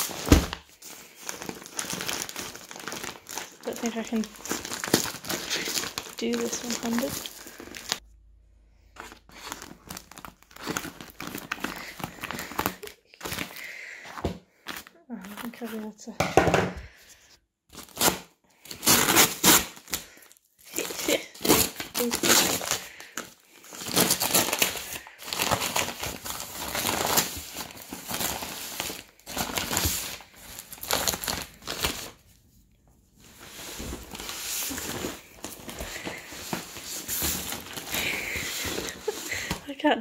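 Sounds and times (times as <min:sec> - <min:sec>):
paper bag tearing and rustling: 0:00.0 - 0:08.0, 0:09.0 - 0:13.8, 0:17.7 - 0:32.2, 0:33.2 - 0:39.6.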